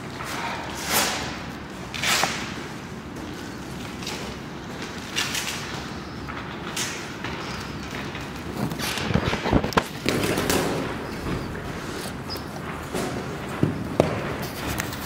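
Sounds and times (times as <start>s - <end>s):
gym room noise: 0.0s - 15.0s.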